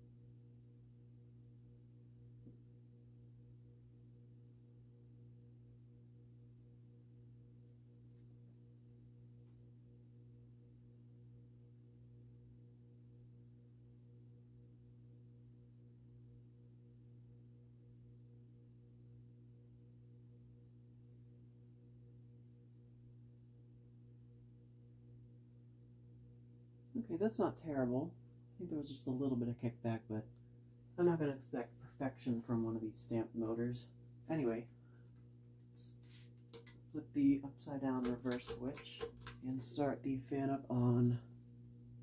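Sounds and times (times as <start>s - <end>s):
faint low electrical hum: 0.0s - 42.0s.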